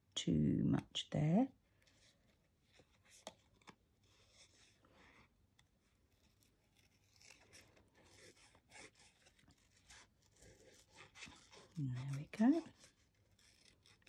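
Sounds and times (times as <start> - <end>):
card rustling: 1.8 - 14.0.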